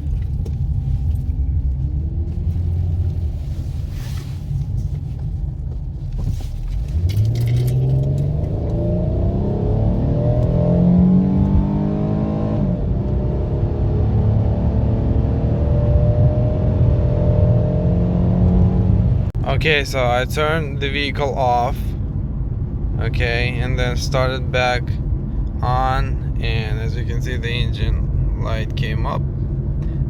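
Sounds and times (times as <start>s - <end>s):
car engine accelerating: 0.0s - 30.0s
road rumble: 0.0s - 30.0s.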